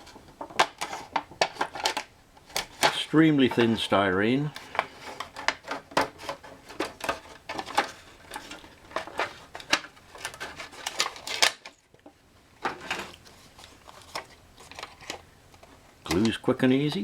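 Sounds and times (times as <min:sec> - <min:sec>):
thin plastic crackling: 0:00.0 - 0:17.0.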